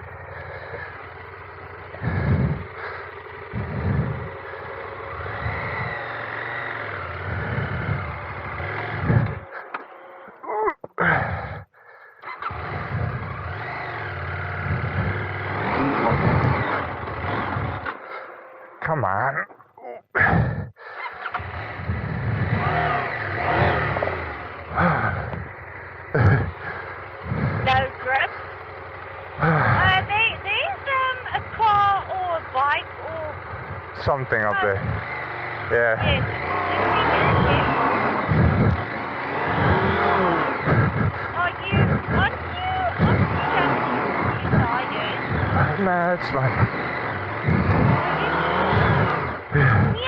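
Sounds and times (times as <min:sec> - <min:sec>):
motorcycle engine revving: 0:00.0 - 0:18.8, 0:20.2 - 0:50.0.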